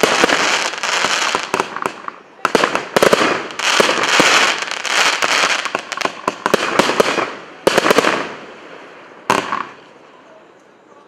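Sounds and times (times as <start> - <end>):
fireworks bangs: 0.0 - 9.9
fireworks crackle: 0.0 - 9.9.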